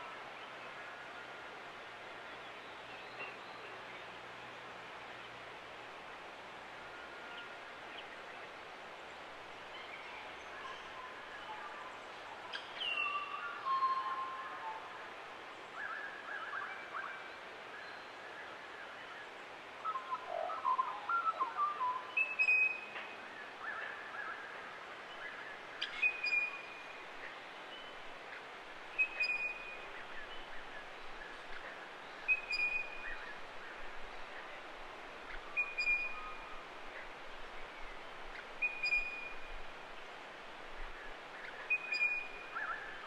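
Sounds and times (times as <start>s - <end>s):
background hiss: 0.0s - 43.0s.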